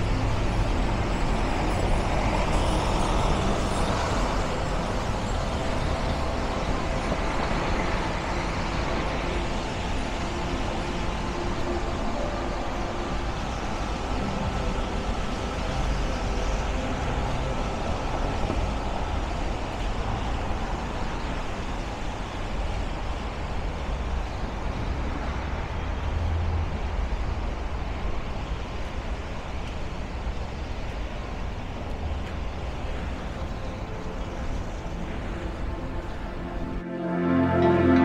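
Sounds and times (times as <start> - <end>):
tyres hissing on wet road: 0.0 - 38.0
vehicles passing: 0.0 - 38.0.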